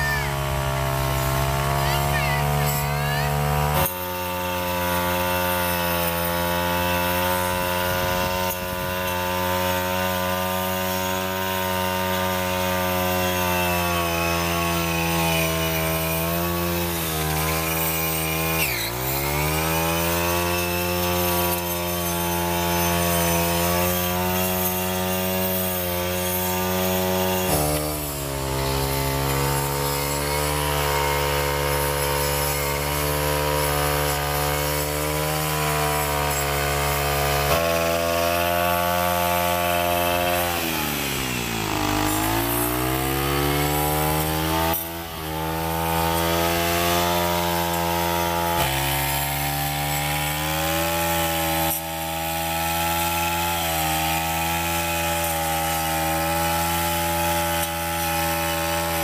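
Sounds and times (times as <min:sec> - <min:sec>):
brush cutter engine at high revs: 0:00.0 - 0:59.0.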